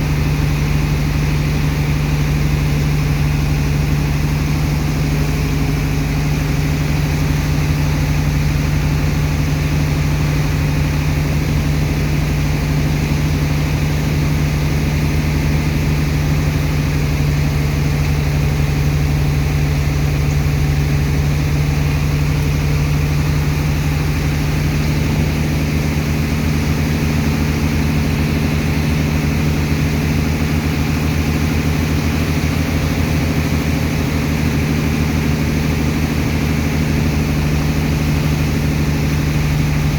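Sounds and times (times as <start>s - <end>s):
pump engine humming: 0.0s - 39.9s.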